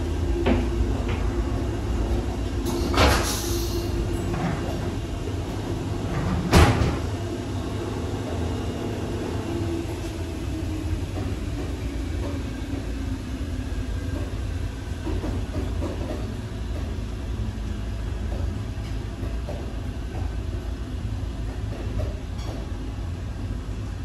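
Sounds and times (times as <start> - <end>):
electric railcar rumble: 0.0 - 24.0.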